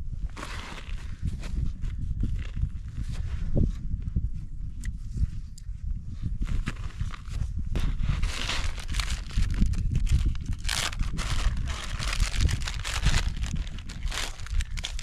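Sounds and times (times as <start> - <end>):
steady low rumble: 0.0 - 15.0
crunching and scraping in snow: 0.2 - 3.8, 6.4 - 15.0.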